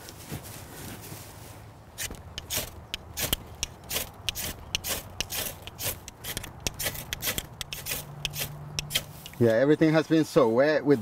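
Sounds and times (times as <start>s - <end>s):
quick scraping and rubbing strokes: 0.2s - 9.5s.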